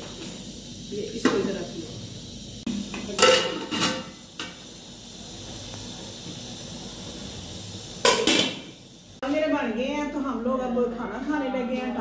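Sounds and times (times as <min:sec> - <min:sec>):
gas burner hissing: 0:00.0 - 0:12.0.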